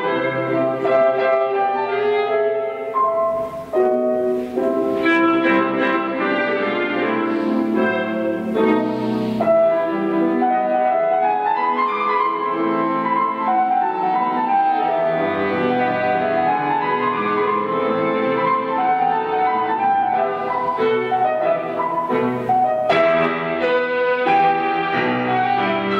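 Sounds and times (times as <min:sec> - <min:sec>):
slow classical piano and strings: 0:00.0 - 0:25.9.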